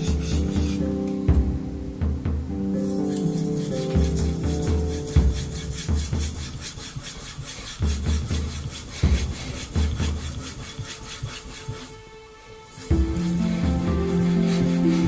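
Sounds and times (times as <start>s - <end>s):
knife scraping on whetstone: 0.0s - 0.9s, 2.8s - 12.0s, 12.7s - 15.0s.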